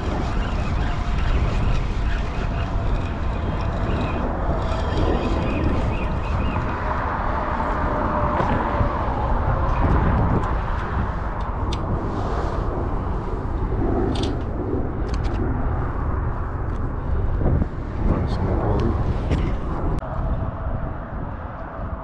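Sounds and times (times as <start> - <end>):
road traffic rumble: 0.0 - 22.0
wind on microphone: 0.0 - 22.0.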